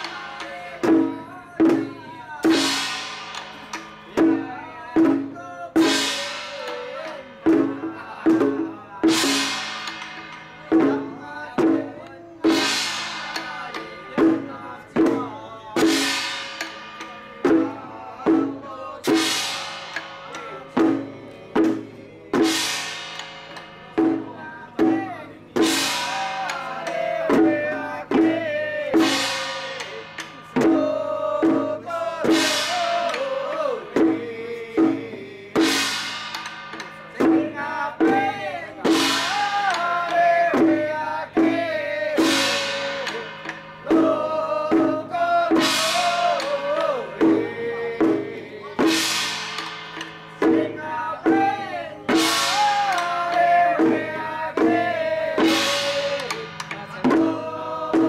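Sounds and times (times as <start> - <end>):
drum beating steadily: 0.0 - 58.0
cymbal crash: 2.5 - 4.4, 5.1 - 11.2, 12.4 - 15.2, 15.8 - 34.2, 34.9 - 41.5, 42.1 - 47.4, 48.0 - 58.0.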